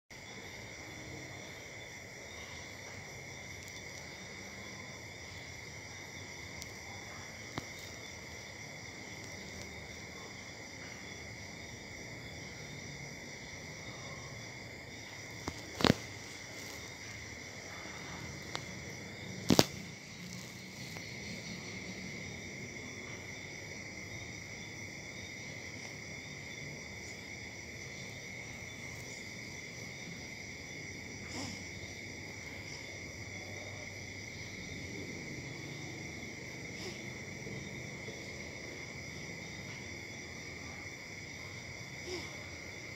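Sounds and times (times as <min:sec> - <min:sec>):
insects trilling: 0:00.1 - 0:42.9.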